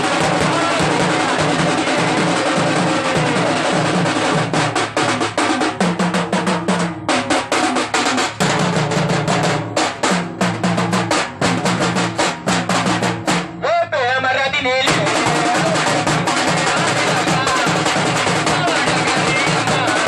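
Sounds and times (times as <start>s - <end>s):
rapid hand drumming: 0.0s - 13.6s, 14.9s - 20.0s.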